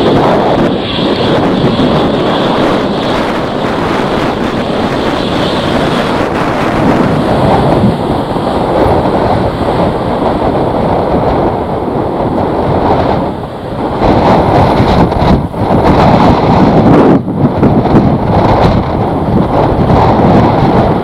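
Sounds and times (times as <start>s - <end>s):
gusting wind buffeting microphone: 0.0s - 21.0s.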